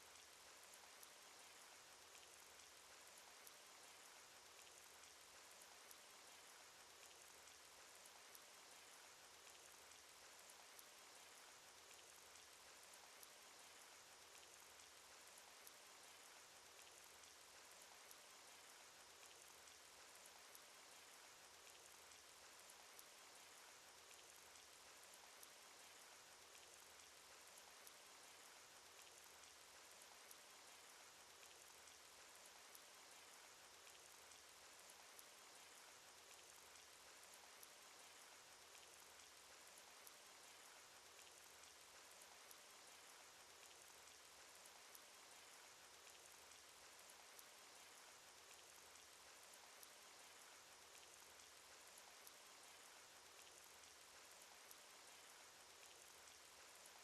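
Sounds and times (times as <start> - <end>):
faint rainfall hiss: 0.0 - 57.0
raindrop ticks: 0.0 - 57.0.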